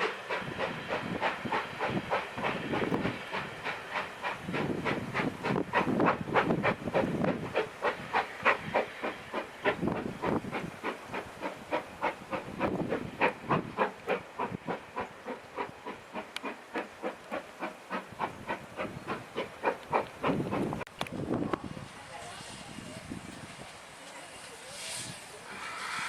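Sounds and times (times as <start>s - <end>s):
steam hissing: 0.0s - 26.0s
steam locomotive chuffing: 0.0s - 26.0s.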